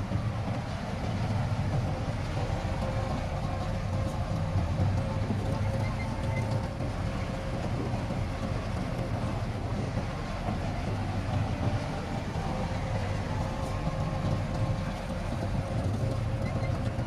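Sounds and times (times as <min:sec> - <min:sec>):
faint steady whine: 0:00.0 - 0:17.0
heavy diesel machinery rumbling: 0:00.0 - 0:17.0.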